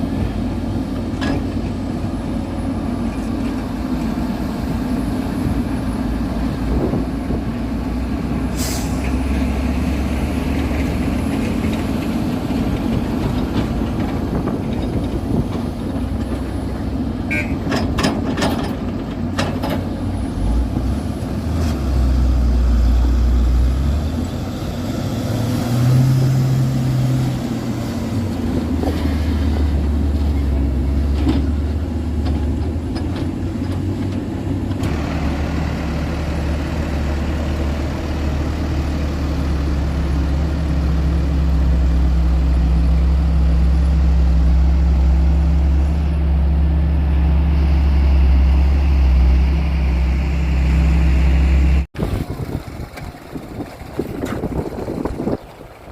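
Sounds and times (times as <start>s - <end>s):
heavy construction machinery engines: 0.0s - 55.9s.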